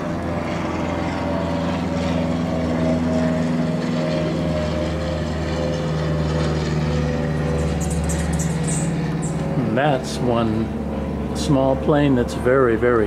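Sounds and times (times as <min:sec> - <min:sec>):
propeller airplane drone: 0:00.0 - 0:13.0.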